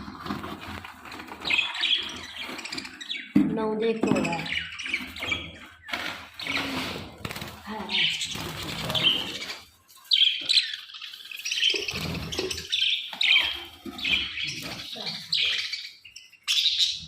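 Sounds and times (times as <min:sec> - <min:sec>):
parrots chirping and squawking: 0:00.0 - 0:17.0.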